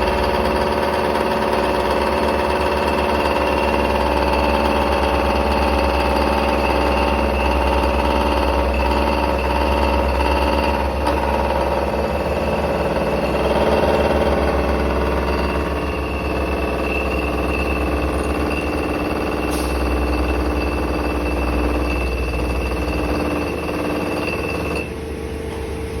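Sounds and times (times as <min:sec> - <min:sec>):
milling machine whine: 0:00.0 - 0:26.0.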